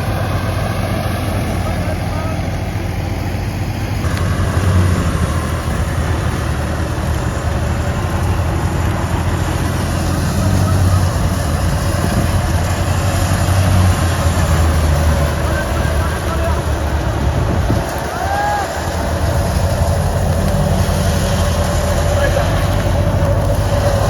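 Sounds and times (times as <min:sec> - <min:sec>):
engine hum: 0:00.0 - 0:24.0
thresher rushing noise: 0:00.0 - 0:24.0.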